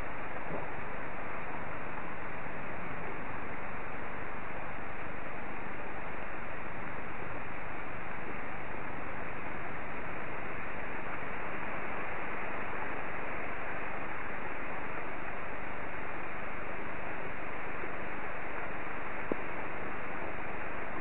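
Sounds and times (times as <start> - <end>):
pouring rain: 0.0 - 21.0.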